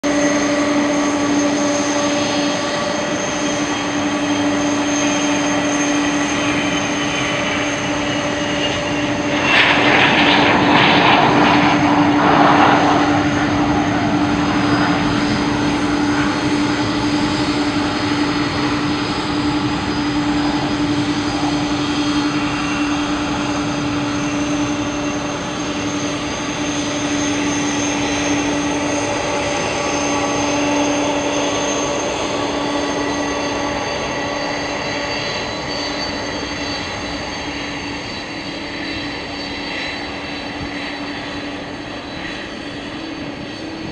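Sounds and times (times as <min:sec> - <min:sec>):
jet engines whining at idle: 0:00.0 - 0:43.9
rush of jet noise: 0:00.3 - 0:43.9.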